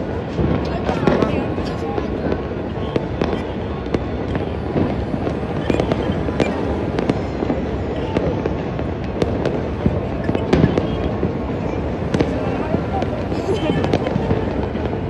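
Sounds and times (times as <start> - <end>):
distant fireworks bursting: 0.0 - 15.0
fireworks cracks and pops: 0.0 - 15.0.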